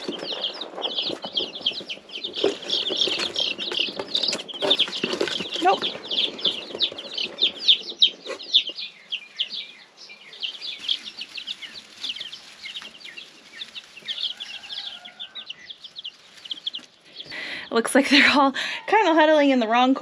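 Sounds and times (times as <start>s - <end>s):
chicks peeping: 0.0s - 19.8s.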